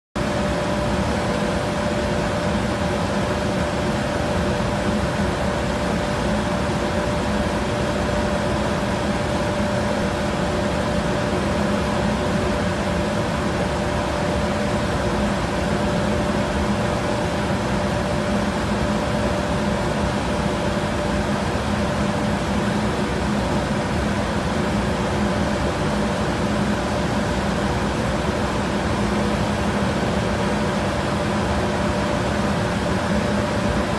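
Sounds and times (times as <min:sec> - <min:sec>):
machinery hum: 0:00.2 - 0:33.9.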